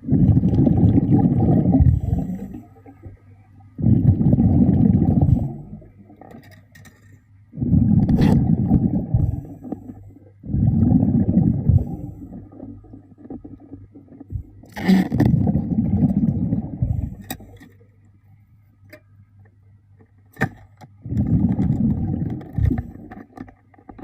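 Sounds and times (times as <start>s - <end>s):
regulator bubbles underwater: 0.0s - 6.8s, 7.4s - 18.1s, 21.0s - 24.0s.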